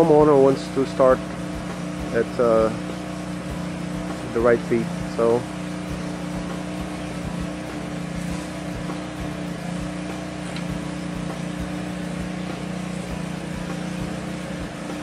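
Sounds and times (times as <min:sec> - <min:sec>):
power sprayer engine humming: 0:00.0 - 0:15.0.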